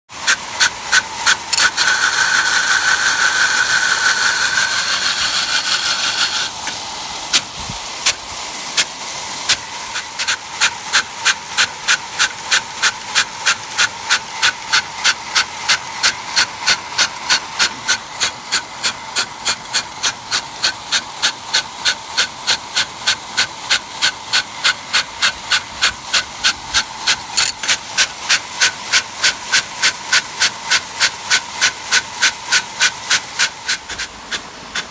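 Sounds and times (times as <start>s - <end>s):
water jet hissing: 0.1s - 34.9s
sprinkler arm clacking: 0.2s - 34.9s.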